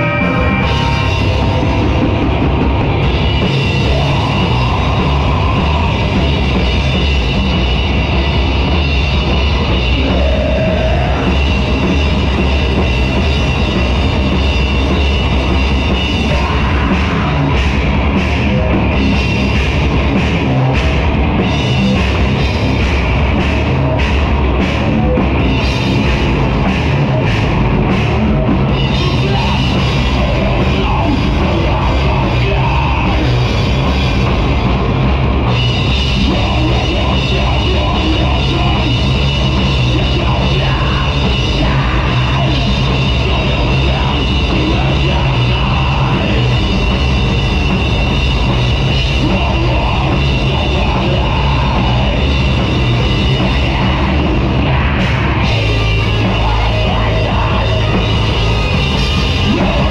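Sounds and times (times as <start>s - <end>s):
bass guitar: 0.0s - 59.9s
electric guitar: 0.0s - 59.9s.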